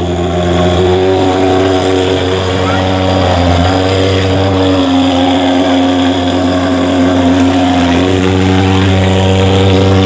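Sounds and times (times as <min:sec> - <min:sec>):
fogging machine engine drone: 0:00.0 - 0:10.0.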